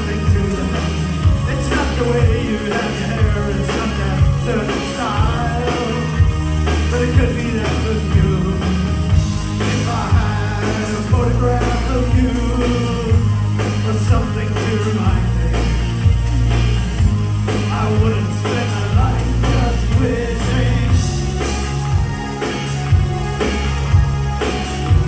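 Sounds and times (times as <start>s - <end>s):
bass: 0.0s - 25.0s
drum beat: 0.0s - 25.0s
keyboards: 0.0s - 25.0s
lead vocals: 0.0s - 25.0s.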